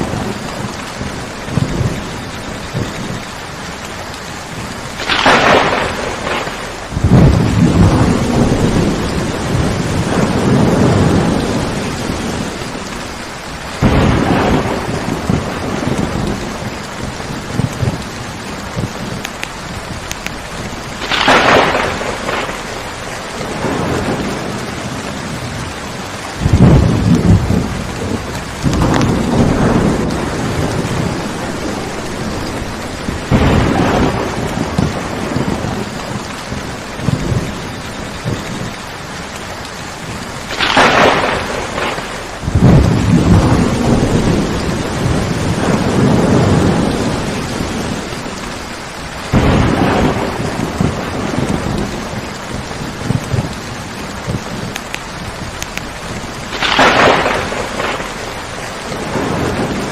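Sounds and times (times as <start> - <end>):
steady rain falling: 0.0 - 59.9
thunder rolling: 0.0 - 59.9.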